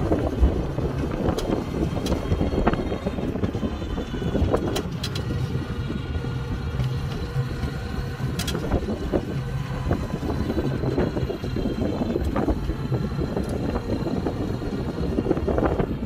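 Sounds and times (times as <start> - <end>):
faint motor hum: 0.0 - 16.0
tyre and wind noise: 0.0 - 16.0.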